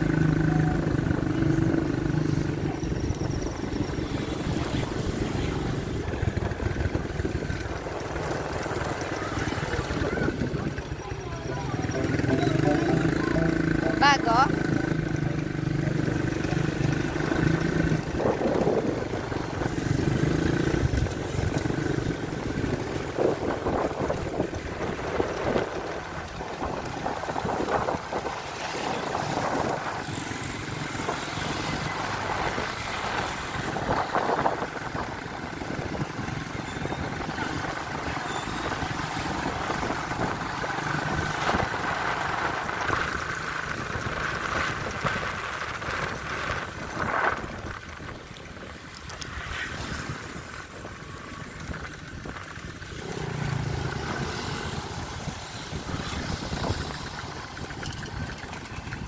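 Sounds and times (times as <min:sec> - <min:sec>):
motorcycle engine running: 0:00.0 - 0:59.0
wind buffeting microphone: 0:02.6 - 0:11.8, 0:15.9 - 0:59.0.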